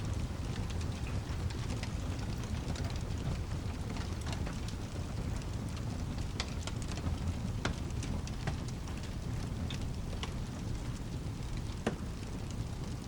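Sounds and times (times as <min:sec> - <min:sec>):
fireplace crackling and popping: 0:00.0 - 0:13.0
low continuous rumble: 0:00.0 - 0:13.0.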